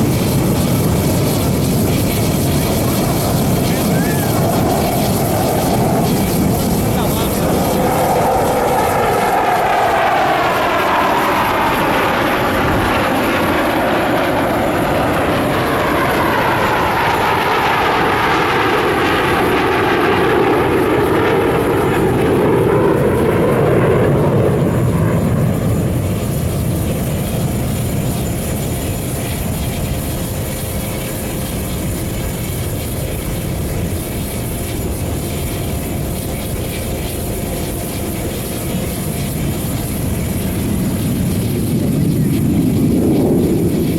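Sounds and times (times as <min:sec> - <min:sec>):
fighter jets flying past: 0:00.0 - 0:43.9.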